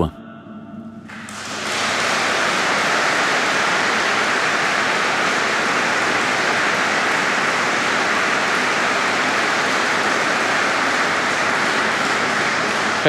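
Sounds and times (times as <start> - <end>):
large audience applauding: 1.1 - 13.0.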